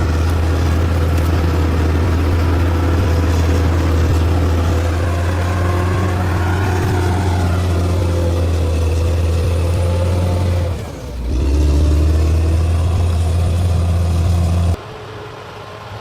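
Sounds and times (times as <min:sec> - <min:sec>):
diesel engine under load: 0:00.0 - 0:14.8
distant engine: 0:00.0 - 0:16.0.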